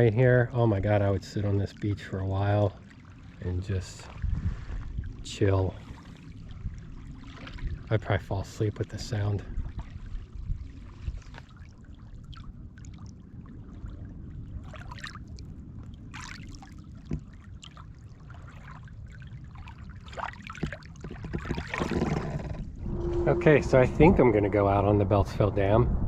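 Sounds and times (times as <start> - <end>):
water splashing and trickling: 0.0 - 23.8
lake waves lapping on shore: 0.8 - 23.8.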